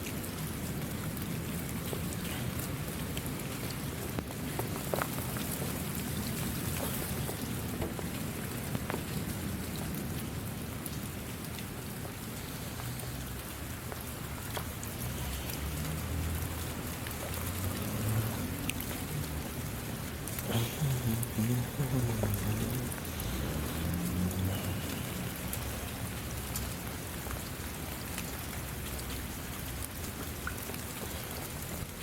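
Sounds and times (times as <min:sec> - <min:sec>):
raindrops ticking: 0:00.0 - 0:32.0
steady rain falling: 0:00.0 - 0:32.0.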